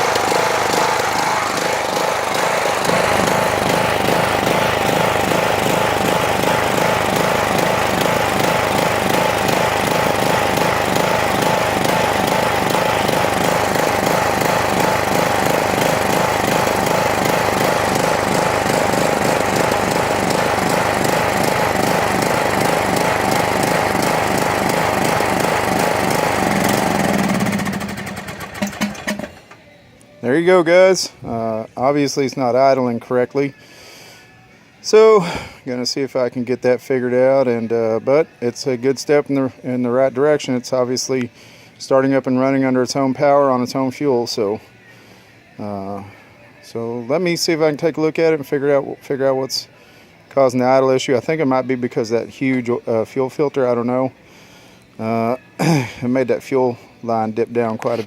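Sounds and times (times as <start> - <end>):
riding mower engine running: 0.0 - 34.2, 34.8 - 46.2, 47.0 - 58.0.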